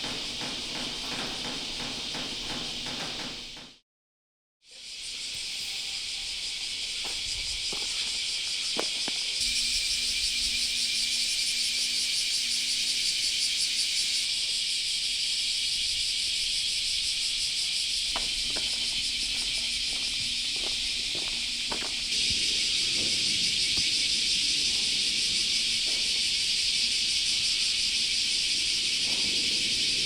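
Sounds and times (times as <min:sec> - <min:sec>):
insects shrilling chorus: 0:04.7 - 0:30.0.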